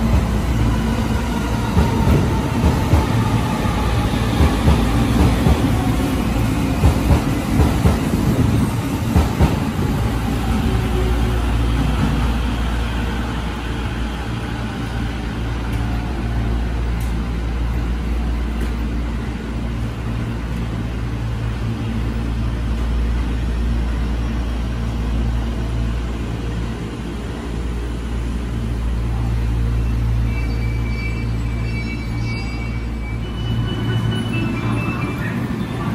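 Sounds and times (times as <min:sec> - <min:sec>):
train rumble and motor whine: 0:00.0 - 0:35.9.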